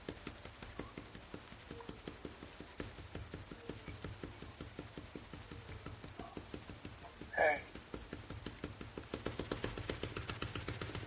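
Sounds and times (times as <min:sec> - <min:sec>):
rapid even clicking: 0:00.0 - 0:11.0.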